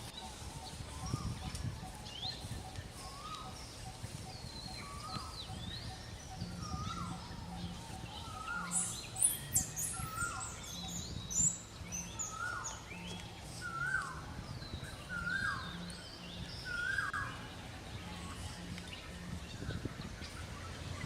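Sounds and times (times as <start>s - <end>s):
high bird chirps and twittering: 0.0s - 21.0s.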